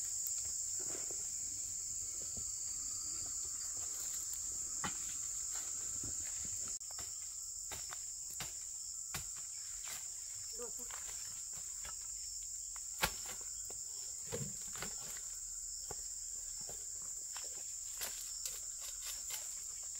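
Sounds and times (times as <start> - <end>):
high-pitched insect chorus: 0.0 - 19.9.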